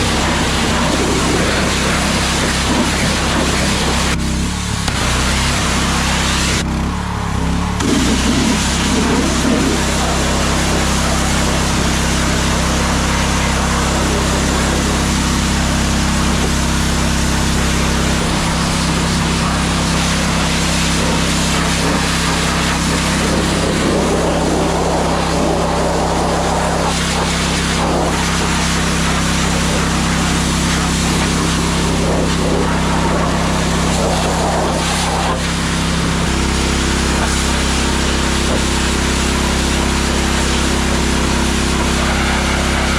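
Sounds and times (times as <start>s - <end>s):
water spray hiss: 0.0s - 6.6s, 7.7s - 42.9s
pressure washer hum: 0.0s - 42.9s.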